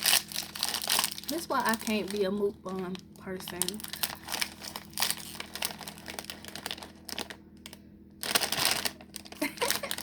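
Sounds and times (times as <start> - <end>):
plastic snack bag crinkling: 0.0 - 10.0.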